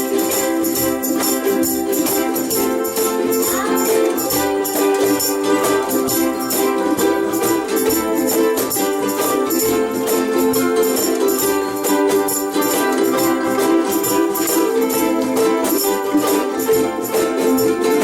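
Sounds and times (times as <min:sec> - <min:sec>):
ukuleles strumming chords: 0:00.0 - 0:18.0.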